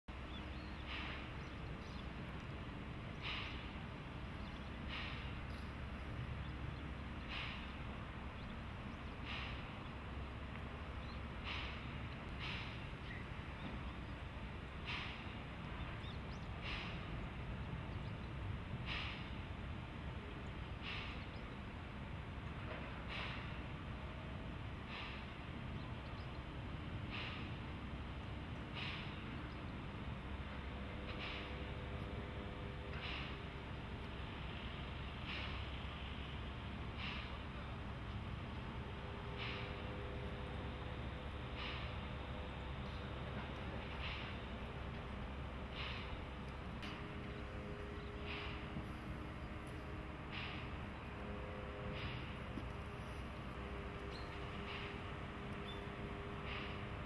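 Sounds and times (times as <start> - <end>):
steady low rumble: 0.1 - 57.0
steam locomotive chuffing: 0.1 - 57.0.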